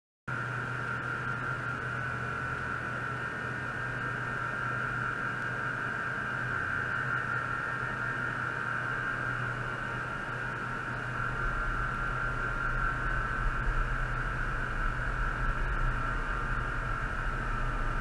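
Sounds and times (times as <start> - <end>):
high-pitched whine: 0.3 - 18.0
low electrical hum: 0.3 - 18.0.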